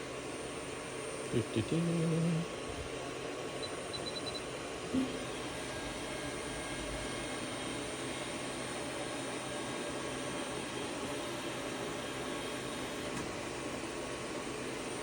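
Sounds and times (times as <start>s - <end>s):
machine equipment humming: 0.0s - 15.0s.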